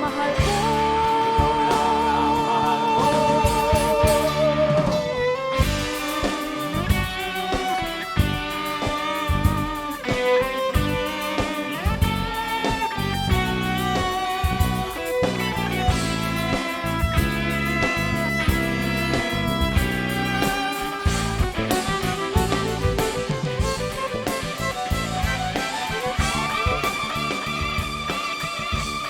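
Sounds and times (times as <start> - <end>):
bass: 0.0 - 29.0
drums: 0.0 - 29.0
electric guitar lead melody: 0.0 - 29.0.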